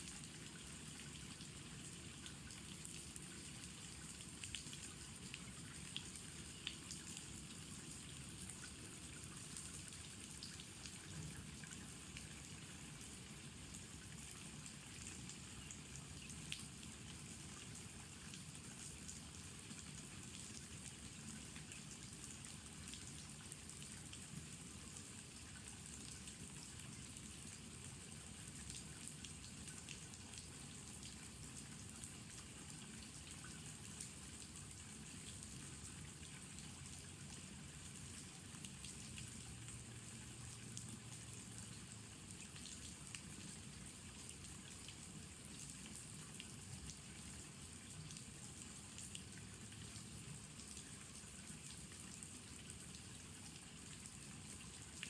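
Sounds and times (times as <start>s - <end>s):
raindrops ticking on surfaces: 0.0s - 55.0s.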